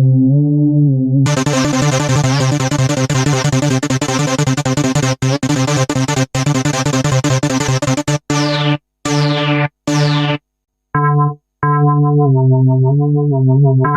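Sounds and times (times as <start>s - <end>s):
warbling electronic synthesizer pattern: 1.2s - 10.4s, 11.0s - 13.9s.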